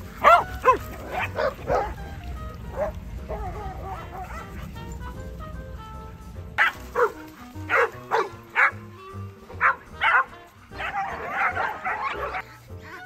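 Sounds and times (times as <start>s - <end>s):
background music with held notes: 0.0s - 13.0s
dogs barking: 0.0s - 13.0s.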